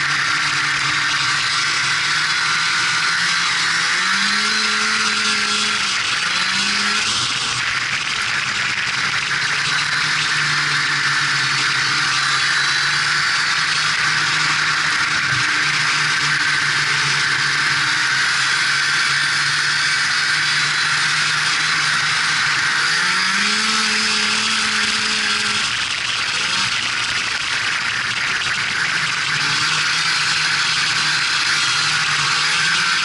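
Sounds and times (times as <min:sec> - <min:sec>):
snowmobile engine running: 0:00.0 - 0:33.0.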